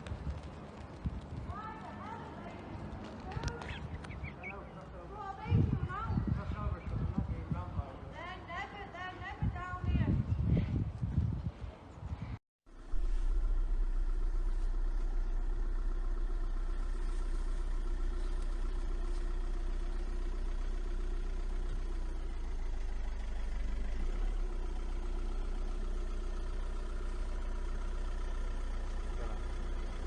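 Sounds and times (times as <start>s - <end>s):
engine humming steadily: 0.0s - 30.0s.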